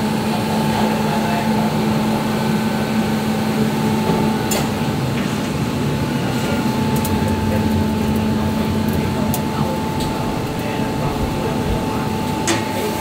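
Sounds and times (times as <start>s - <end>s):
kitchen fan humming: 0.0s - 13.0s.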